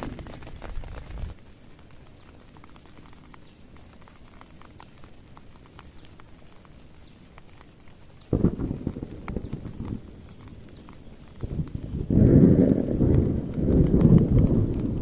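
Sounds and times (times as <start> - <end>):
pulsing insect trill: 0.0 - 15.0
raindrops pattering: 0.0 - 15.0.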